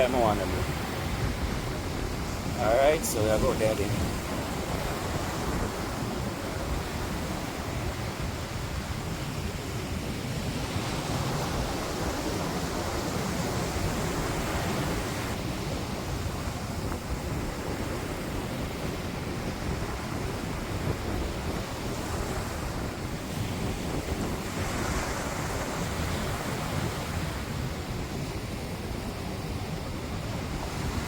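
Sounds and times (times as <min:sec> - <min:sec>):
rushing water: 0:00.0 - 0:28.0
wind across microphone: 0:00.0 - 0:31.0.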